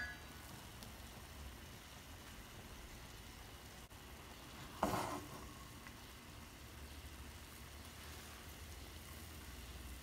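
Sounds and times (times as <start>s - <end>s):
gas burner hum and hiss: 0.0s - 10.0s.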